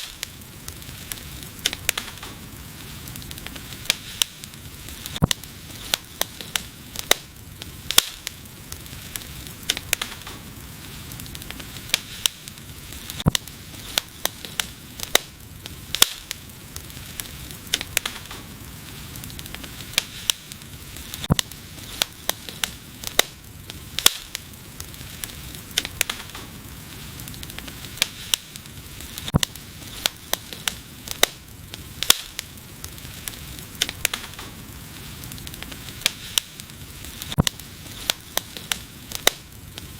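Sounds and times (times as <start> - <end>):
hiss of flames: 0.0 - 39.9
wood fire crackling: 0.0 - 39.9.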